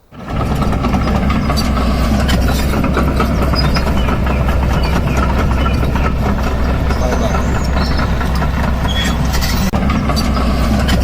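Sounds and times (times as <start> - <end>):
machinery humming: 0.0 - 11.0
machinery rattling: 0.0 - 11.0.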